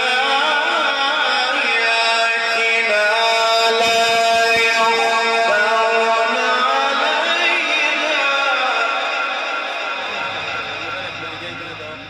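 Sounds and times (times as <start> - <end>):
man reciting in melodic chant: 0.0 - 12.0.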